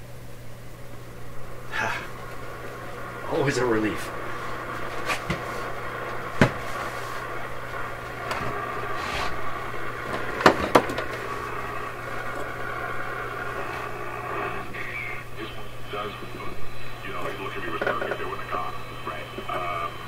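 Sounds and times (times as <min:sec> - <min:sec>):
radio static and hiss: 0:00.0 - 0:20.0
steady low hum: 0:00.0 - 0:20.0
sharp radio crackles: 0:01.2 - 0:20.0.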